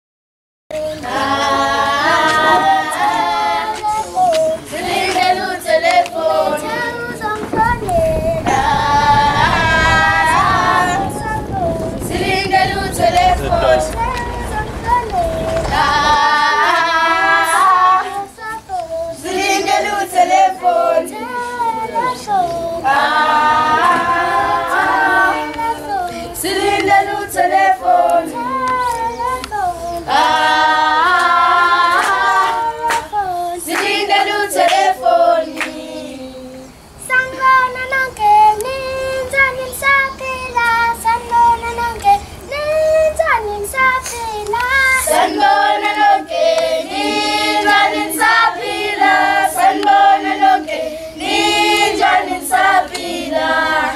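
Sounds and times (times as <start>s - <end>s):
children's choir singing: 0.7s - 53.9s.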